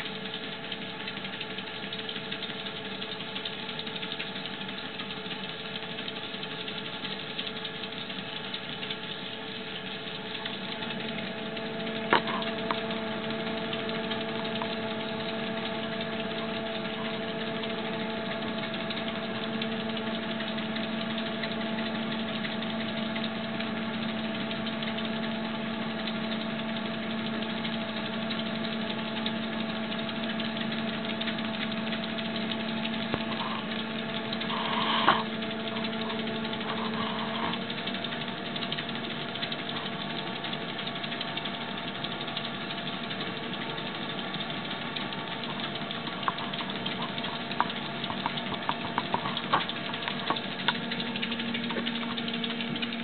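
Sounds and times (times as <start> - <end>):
treadmill motor and belt running: 0.0 - 53.0.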